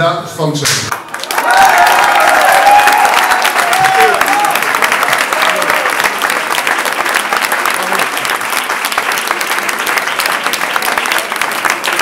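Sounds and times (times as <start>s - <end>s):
crowd applauding: 0.9s - 12.0s.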